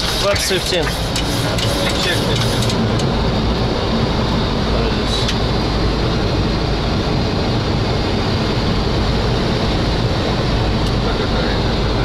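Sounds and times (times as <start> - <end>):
aircraft engine noise: 0.0 - 12.0.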